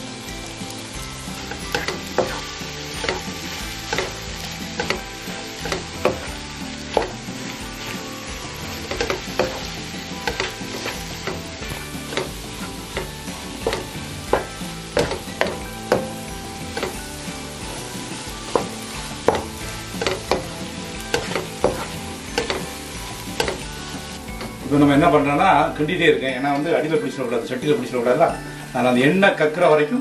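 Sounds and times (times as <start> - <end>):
frying sizzle: 0.0 - 30.0
spatula scraping wok: 0.5 - 25.5.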